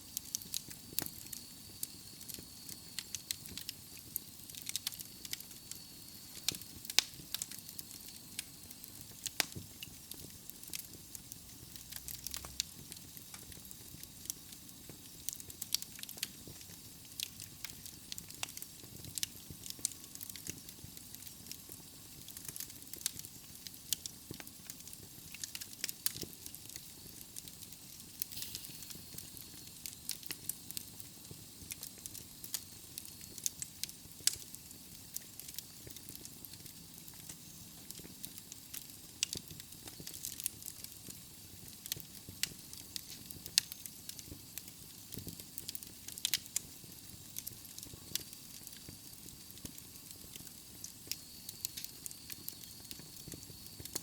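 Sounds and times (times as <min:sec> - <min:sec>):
fire hissing: 0:00.0 - 0:54.0
logs crackling and popping: 0:00.1 - 0:54.0.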